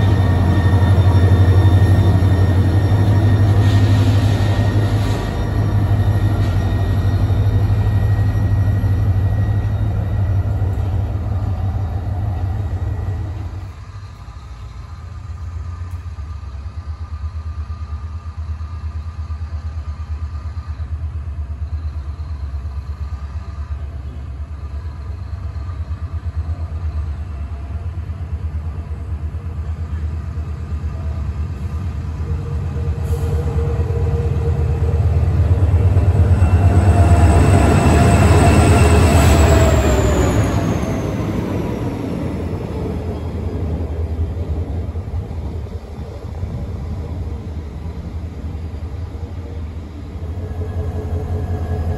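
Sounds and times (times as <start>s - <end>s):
diesel locomotive engine drone: 0.0s - 51.9s.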